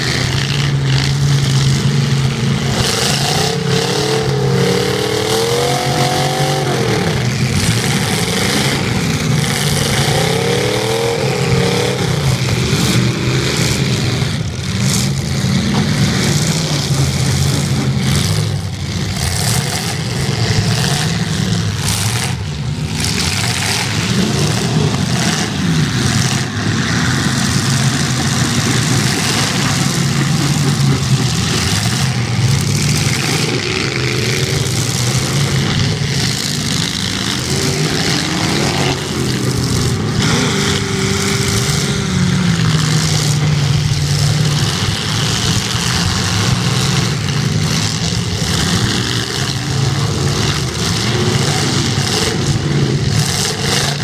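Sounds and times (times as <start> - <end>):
car engines revving hard: 0.0 - 54.0
din of running engines: 0.0 - 54.0.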